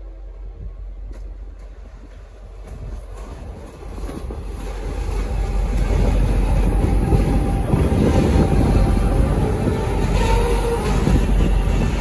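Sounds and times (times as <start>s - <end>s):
diesel locomotive engine rumbling: 0.0s - 12.0s
train wheel noise: 0.0s - 12.0s.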